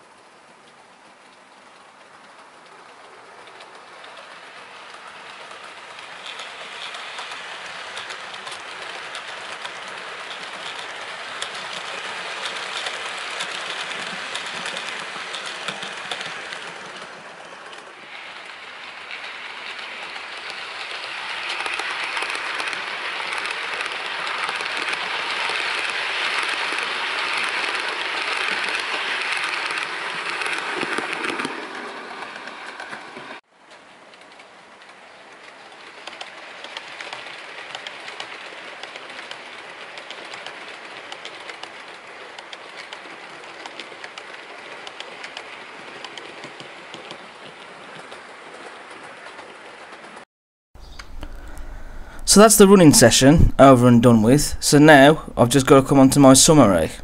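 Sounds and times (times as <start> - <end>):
model train wheels rattling: 1.3 - 33.4, 34.0 - 50.2.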